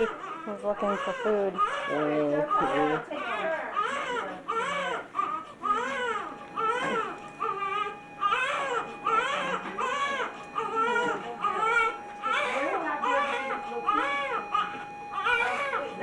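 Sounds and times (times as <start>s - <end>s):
newborn baby crying: 0.0s - 16.0s.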